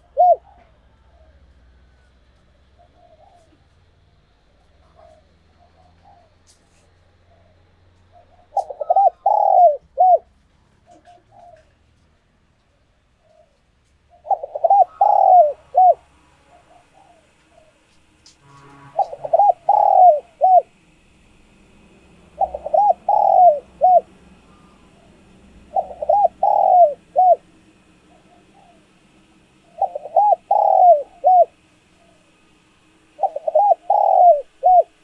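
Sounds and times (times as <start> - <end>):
dove cooing: 0.0 - 11.9, 13.2 - 17.9, 19.0 - 20.8, 22.0 - 35.0.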